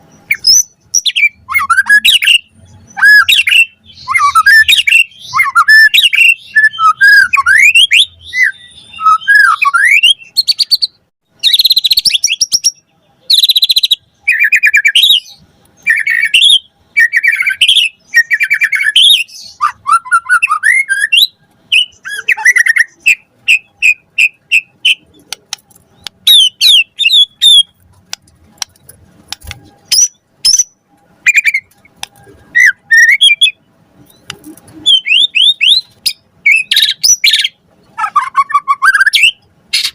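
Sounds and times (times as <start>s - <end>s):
songbird singing varied phrases: 0.0s - 27.8s, 29.8s - 39.9s.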